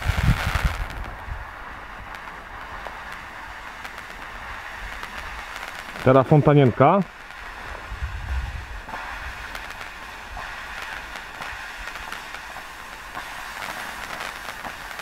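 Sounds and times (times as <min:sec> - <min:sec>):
small crackles: 0:00.0 - 0:07.8, 0:08.9 - 0:15.0
firework fountain hissing: 0:00.0 - 0:15.0.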